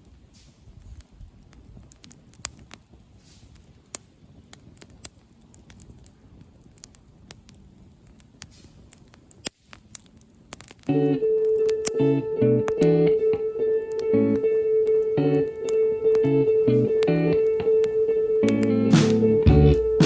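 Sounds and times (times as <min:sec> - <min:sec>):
campfire crackling and popping: 0:00.0 - 0:20.0
low rustle of burning: 0:00.0 - 0:20.0.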